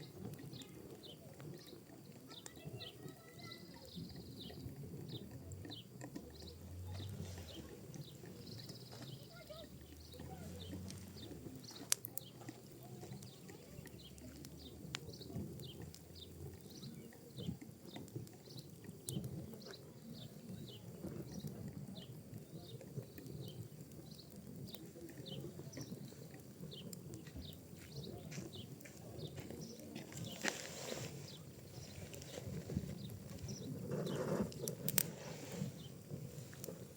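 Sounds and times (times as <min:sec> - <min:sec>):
fire crackles and pops: 0:00.0 - 0:36.9
fire flames rustling: 0:00.0 - 0:36.9.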